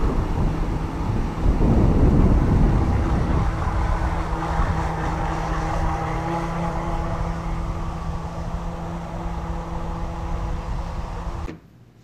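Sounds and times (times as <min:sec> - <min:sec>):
wind buffeting microphone: 0:00.0 - 0:11.5
electric boat motor drone: 0:00.0 - 0:11.6.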